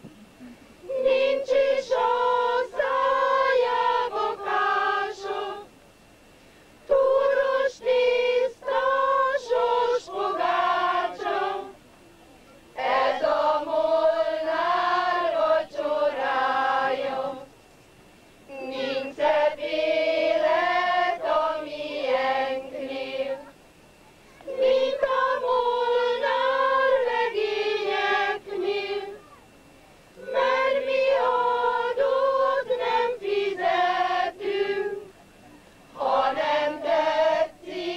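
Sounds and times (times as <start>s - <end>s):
choir singing unaccompanied: 0.8s - 11.9s, 12.7s - 17.6s, 18.5s - 23.6s, 24.4s - 29.4s, 30.1s - 37.9s.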